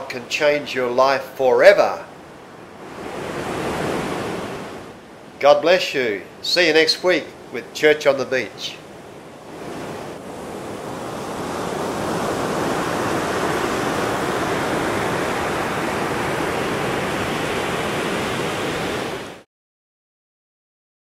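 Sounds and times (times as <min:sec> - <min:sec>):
ocean surf washing up beach: 0:00.0 - 0:19.4.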